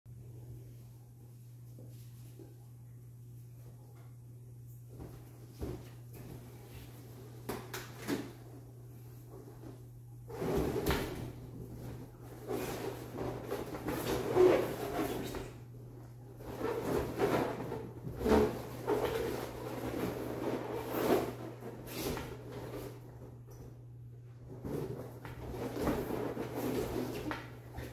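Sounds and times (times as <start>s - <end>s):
steady low hum: 0.1s - 27.9s.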